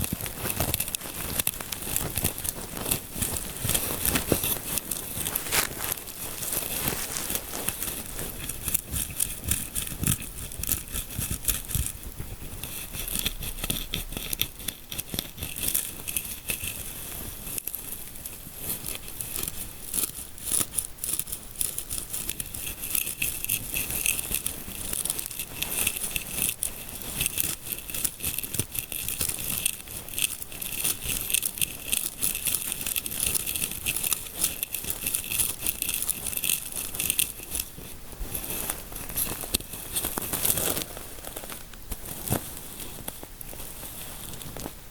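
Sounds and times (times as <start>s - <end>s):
fingers rubbing and scratching scalp: 0.0s - 44.8s.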